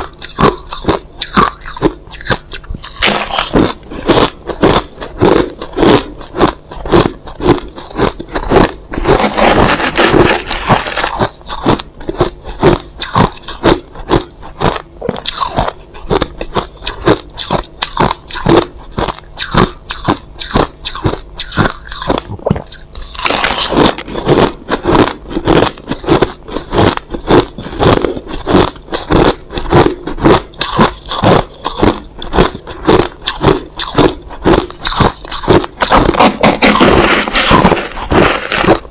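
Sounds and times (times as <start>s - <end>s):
person chewing crushed ice: 0.0s - 38.9s.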